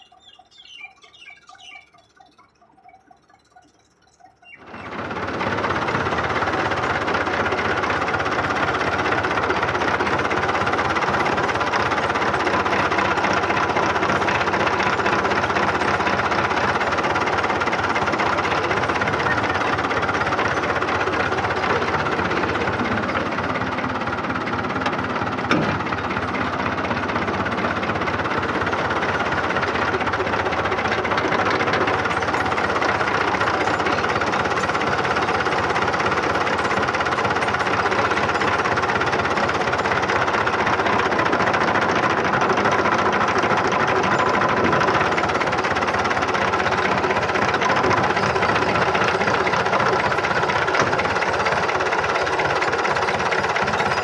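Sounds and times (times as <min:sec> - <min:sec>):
diesel tractor engine clattering: 0:00.0 - 0:02.2, 0:04.4 - 0:54.0.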